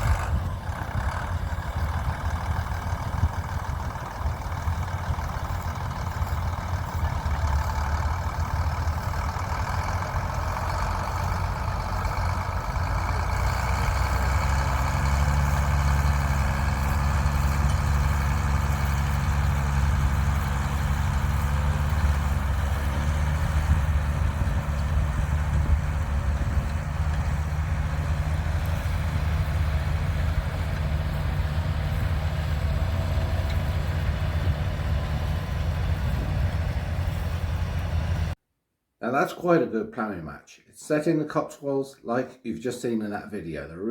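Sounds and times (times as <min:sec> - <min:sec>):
tractor engine running: 0:00.0 - 0:38.4.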